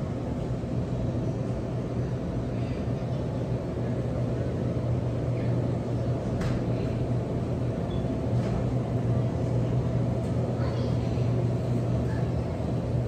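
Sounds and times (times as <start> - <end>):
refrigerator and ventilation hum: 0.0 - 13.0.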